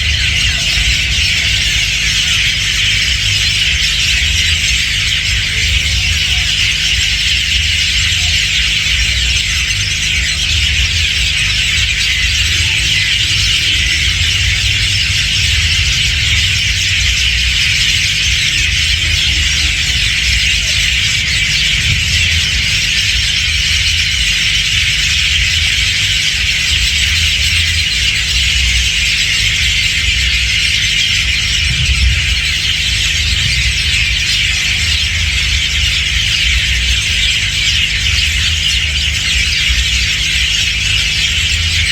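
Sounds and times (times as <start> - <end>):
flock of birds chirping: 0.0 - 41.9
low rumble: 0.0 - 41.9.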